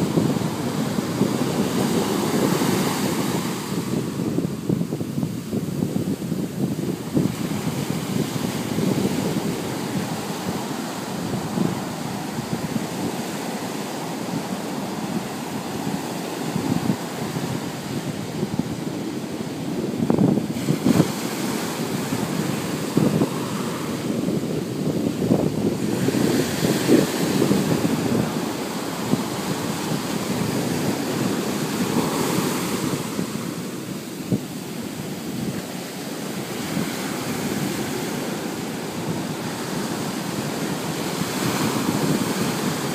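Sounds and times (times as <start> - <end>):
ocean surf breaking on beach: 0.0 - 42.9
wind buffeting microphone: 0.0 - 42.9.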